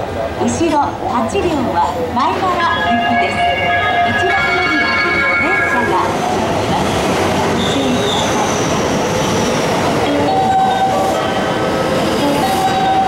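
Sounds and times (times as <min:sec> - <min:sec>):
train rail noise: 0:00.0 - 0:13.0.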